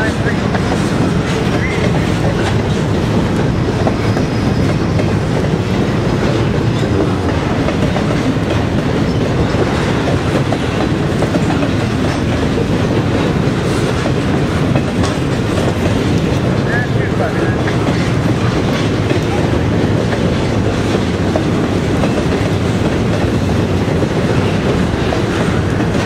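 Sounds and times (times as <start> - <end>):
freight train rumbling past: 0.0 - 26.0
wheels clattering on rails: 0.0 - 26.0.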